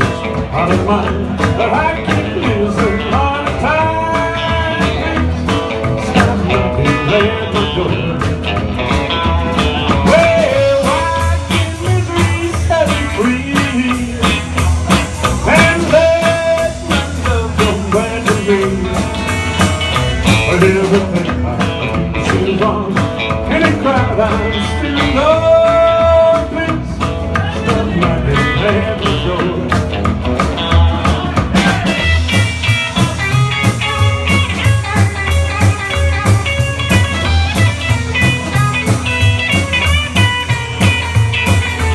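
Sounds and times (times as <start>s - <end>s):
bass and drum beat: 0.0s - 41.9s
blues lead guitar: 0.0s - 41.9s.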